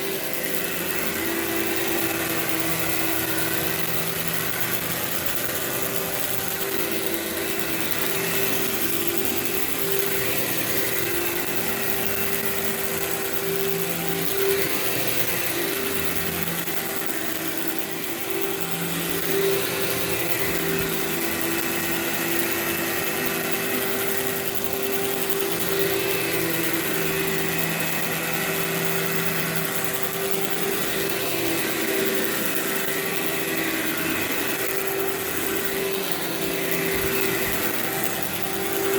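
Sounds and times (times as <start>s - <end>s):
vacuum cleaner running on carpet: 0.0s - 38.9s.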